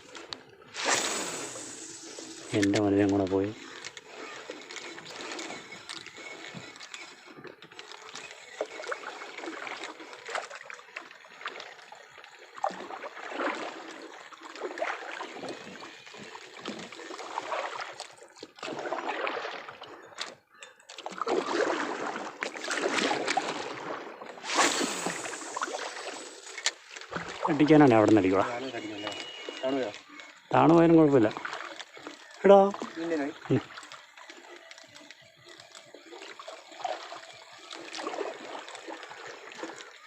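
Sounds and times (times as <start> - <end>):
water splashing around boat: 0.0 - 40.0.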